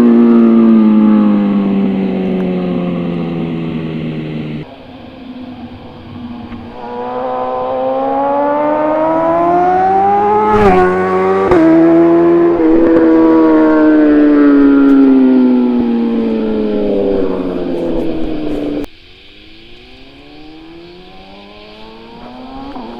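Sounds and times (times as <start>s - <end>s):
motorcycle accelerating hard: 0.0s - 18.9s, 19.5s - 22.9s.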